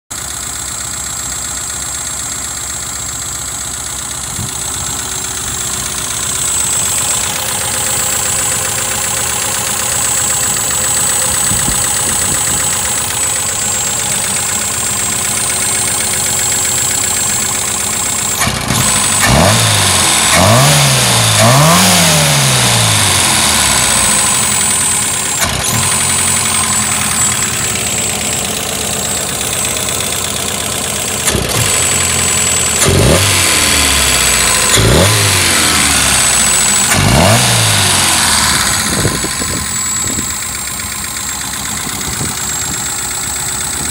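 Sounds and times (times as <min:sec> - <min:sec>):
engine idling rough and revving: 0:00.1 - 0:43.9
high-pitched engine whine: 0:04.3 - 0:43.9.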